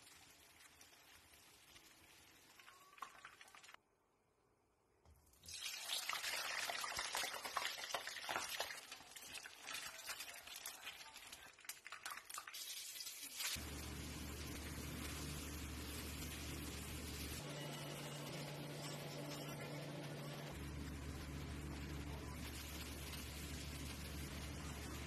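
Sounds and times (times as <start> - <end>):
fainter frying sizzle: 0.0 - 3.8, 5.3 - 25.0
oil sizzling and popping in a pan: 0.0 - 3.8, 5.1 - 17.4, 18.2 - 25.0.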